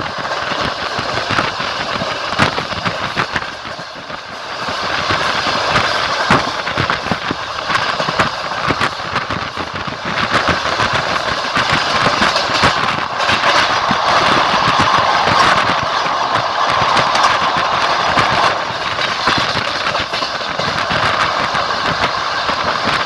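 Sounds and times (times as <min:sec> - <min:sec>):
train rolling rumble: 0:00.0 - 0:23.0
wheels clacking over rail joints: 0:00.0 - 0:23.0.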